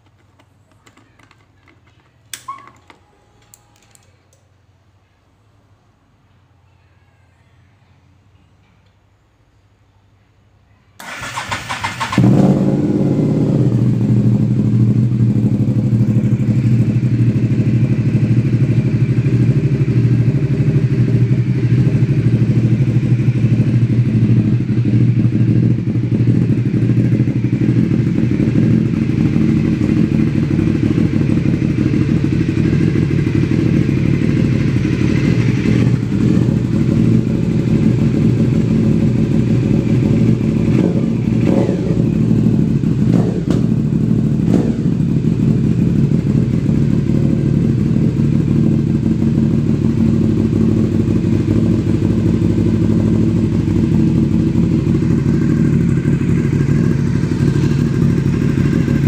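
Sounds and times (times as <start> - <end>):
motorcycle engine idling: 11.0 - 59.0.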